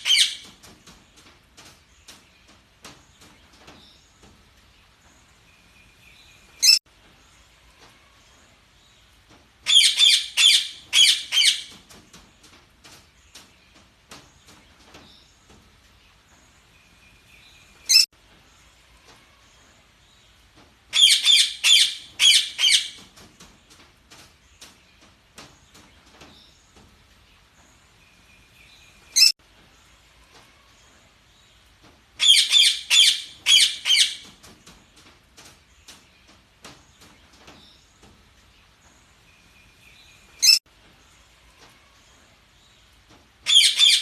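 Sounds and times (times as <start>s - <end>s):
soft bird chatter: 0.0s - 44.0s.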